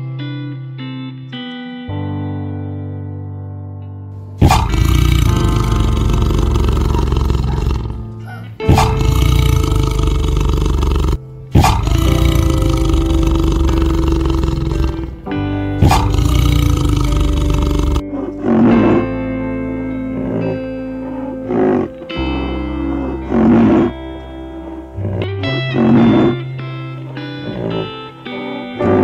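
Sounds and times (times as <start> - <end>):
background music: 0.0 - 29.0
tiger roaring: 4.4 - 19.3, 19.9 - 29.0.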